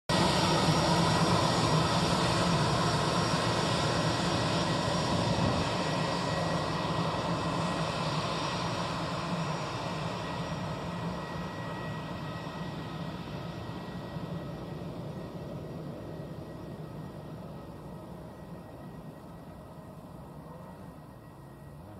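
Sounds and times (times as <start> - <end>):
jet engines rush and whine: 0.1 - 21.9.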